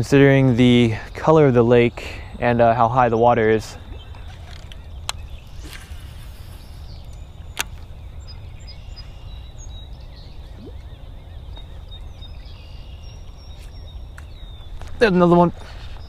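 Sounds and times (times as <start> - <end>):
faint bird chirps: 1.0 - 16.0.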